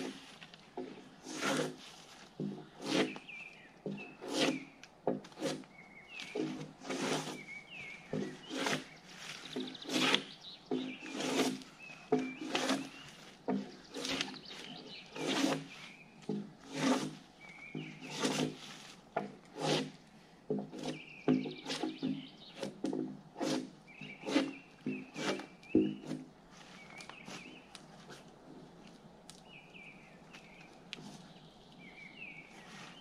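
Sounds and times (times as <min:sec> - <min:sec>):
drawknife scraping bark from log: 0:00.0 - 0:28.3.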